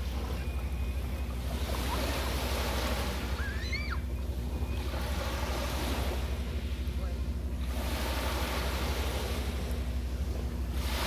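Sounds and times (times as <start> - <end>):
waves breaking on sandy beach: 0.0 - 11.0.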